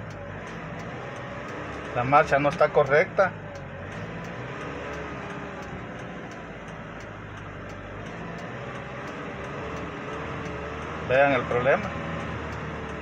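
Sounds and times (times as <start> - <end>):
truck engine pulling slowly: 0.0 - 13.0.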